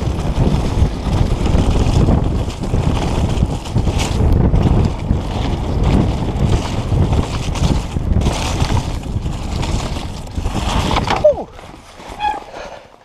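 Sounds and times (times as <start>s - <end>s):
wind on microphone: 0.0s - 12.6s
bike tyres rumbling on snow: 0.0s - 13.0s.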